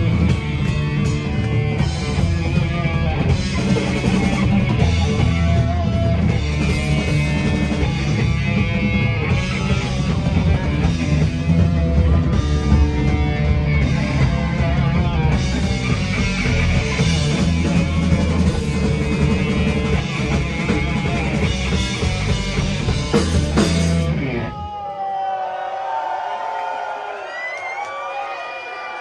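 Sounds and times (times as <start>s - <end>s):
heavy rock band playing: 0.0s - 24.9s.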